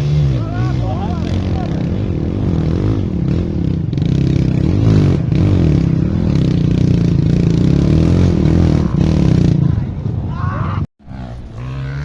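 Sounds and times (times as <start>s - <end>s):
off-road motorcycle engine revving: 0.0s - 12.0s.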